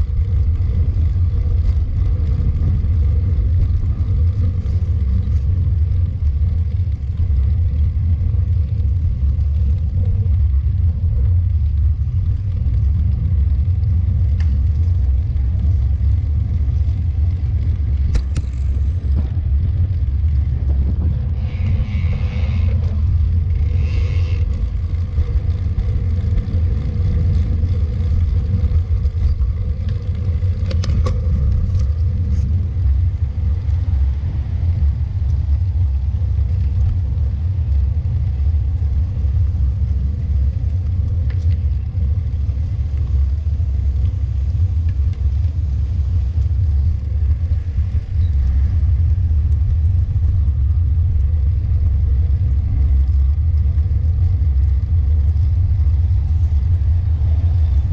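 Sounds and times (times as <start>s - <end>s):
bicycle road noise: 0.0s - 57.9s
wind buffeting the microphone: 0.0s - 57.9s.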